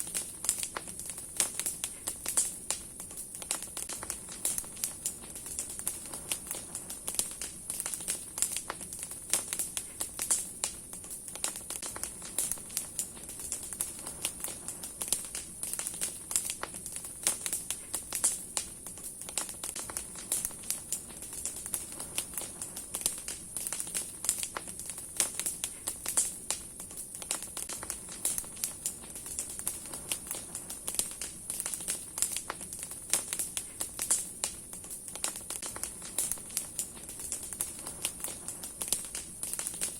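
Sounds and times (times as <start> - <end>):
bonfire crackling and popping: 0.0 - 39.9
fire hissing: 0.0 - 39.9.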